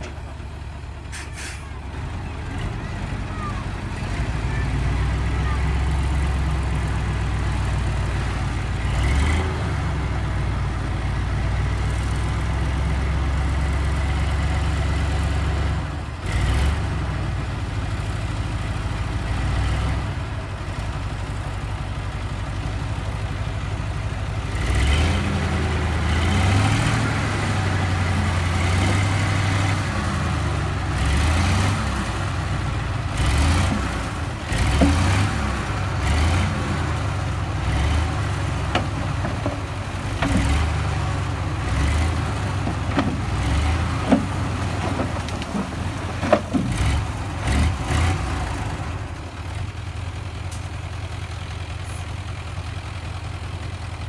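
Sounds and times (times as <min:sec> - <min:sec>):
diesel truck engine idling and revving: 0:00.0 - 0:54.0.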